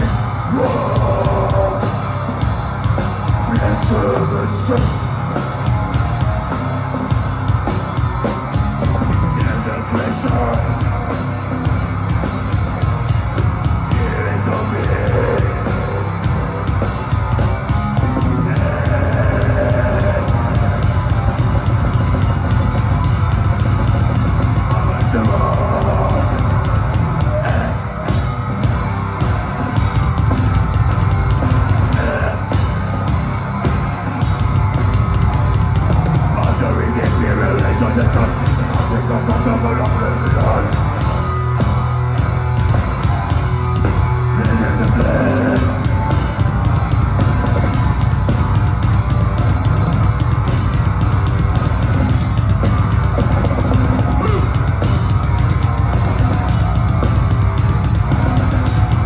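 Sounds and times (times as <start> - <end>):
live extreme metal band: 0.0 - 59.0.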